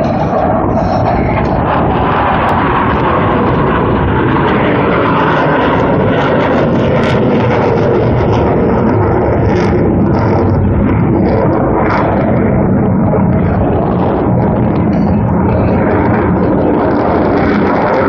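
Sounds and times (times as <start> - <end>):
jet engines overhead: 0.0 - 18.0.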